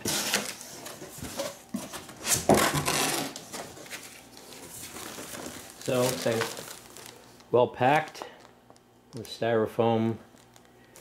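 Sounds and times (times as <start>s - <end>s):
rustling of packed contents: 0.0s - 11.0s.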